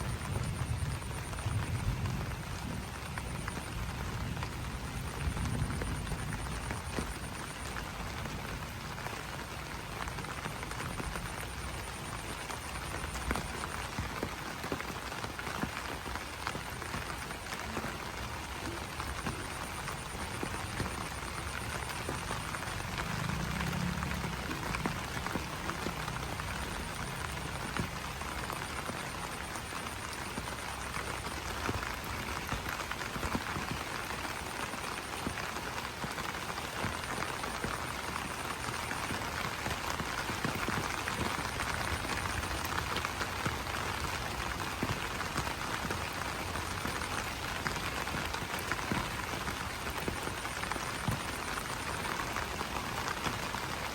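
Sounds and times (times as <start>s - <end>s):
rain pattering on leaves: 0.0s - 53.9s.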